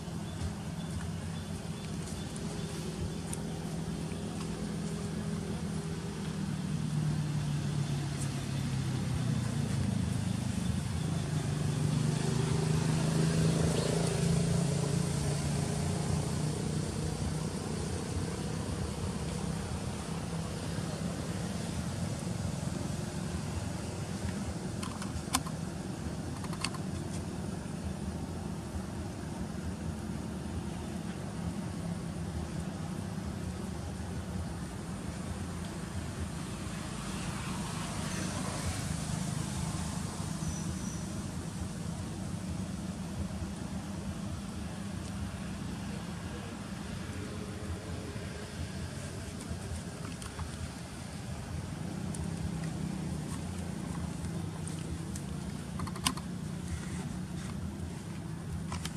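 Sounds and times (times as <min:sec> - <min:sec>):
vehicle engine hum: 0:00.0 - 0:58.9.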